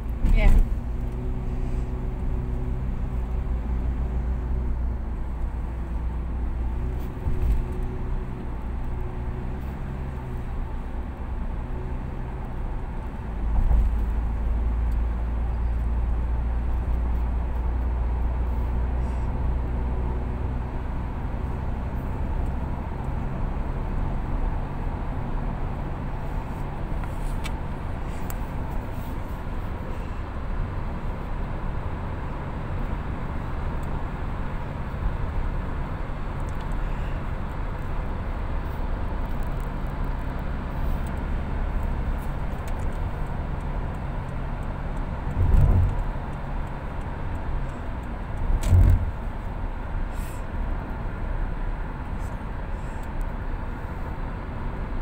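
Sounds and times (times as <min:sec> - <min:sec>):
car engine hum inside cabin: 0:00.0 - 0:55.0
tyre and road noise: 0:00.0 - 0:55.0.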